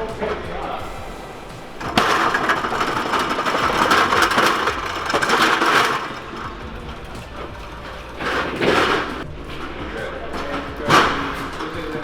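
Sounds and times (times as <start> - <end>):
loud mechanical rattling: 0.0 - 12.0.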